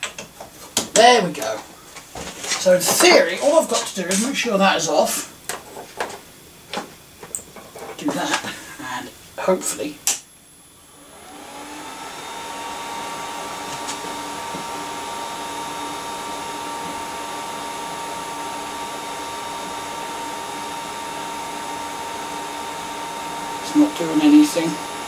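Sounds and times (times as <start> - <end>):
server cooling fans whirring: 0.0 - 25.0.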